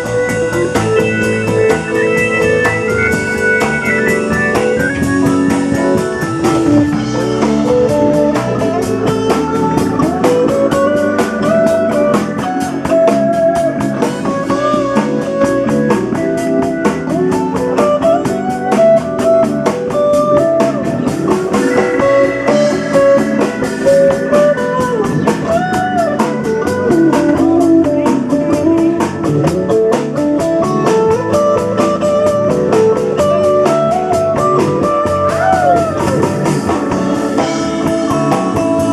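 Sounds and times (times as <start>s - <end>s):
backing instruments: 0.0s - 38.9s
drum kit: 0.0s - 38.9s
lead guitar with bent notes: 0.0s - 38.9s.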